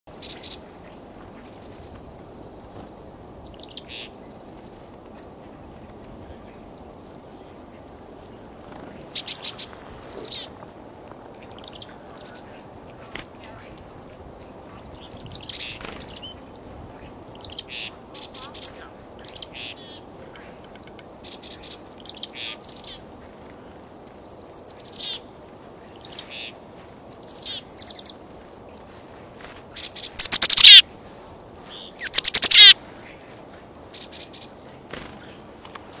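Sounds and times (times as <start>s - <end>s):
chickadees calling: 0.1s - 13.6s, 14.2s - 25.2s, 25.8s - 36.0s.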